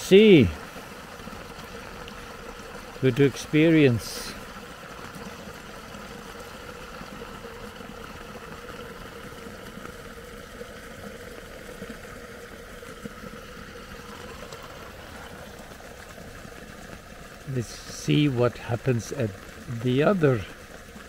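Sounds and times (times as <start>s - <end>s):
water pouring from a pipe: 0.0s - 21.0s.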